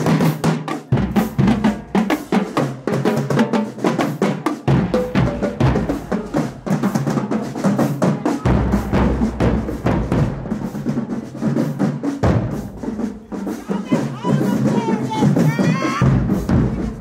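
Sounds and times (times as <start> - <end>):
drumline playing cadence: 0.0 - 17.0.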